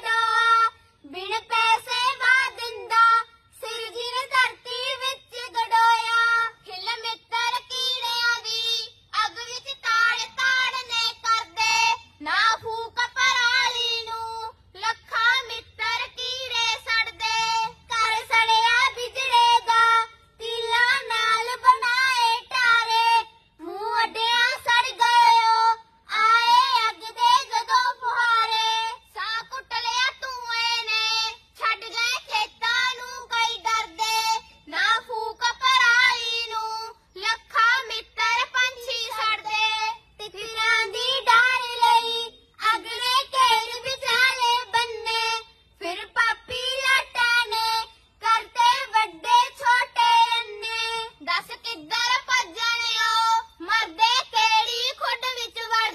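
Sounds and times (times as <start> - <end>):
girls singing together: 0.0 - 55.9.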